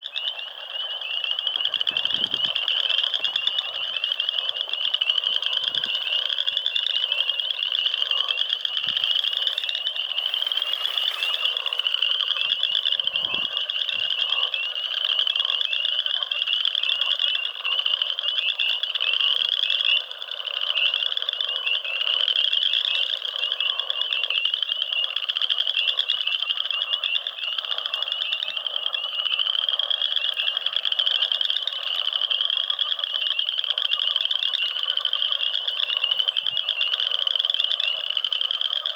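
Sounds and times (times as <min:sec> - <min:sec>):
frogs chorus calling: 0:00.0 - 0:38.9.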